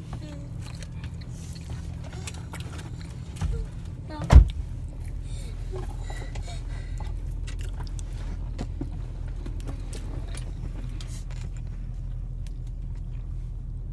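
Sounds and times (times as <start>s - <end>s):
car cabin rumble: 0.0s - 13.9s.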